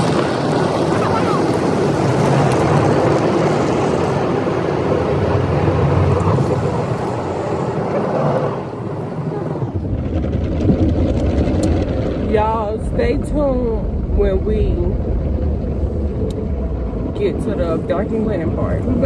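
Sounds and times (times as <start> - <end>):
car wash rushing noise: 0.0 - 19.0
low rumble: 0.0 - 19.0.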